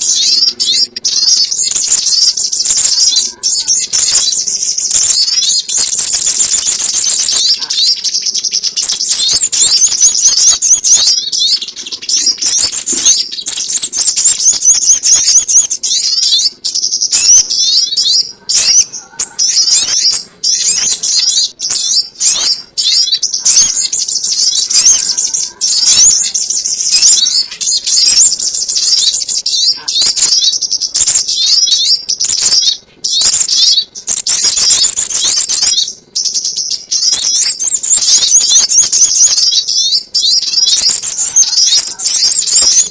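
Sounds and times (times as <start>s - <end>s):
bird chattering call: 0.0s - 42.9s.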